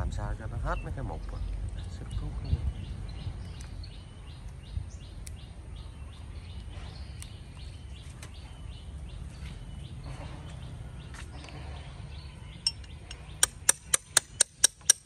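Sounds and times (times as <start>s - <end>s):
steady low rumble: 0.0s - 13.8s
small bird chirping: 0.6s - 15.0s.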